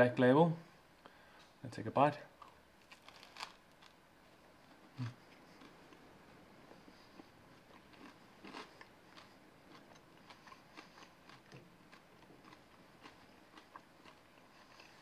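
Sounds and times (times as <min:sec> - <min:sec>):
person chewing bread: 0:02.4 - 0:04.0, 0:04.6 - 0:15.0.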